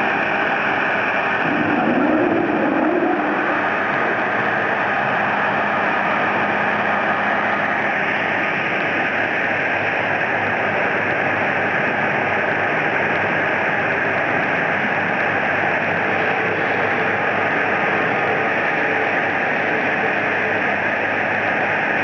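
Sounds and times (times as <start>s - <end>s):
circular saws running: 0.0s - 22.0s.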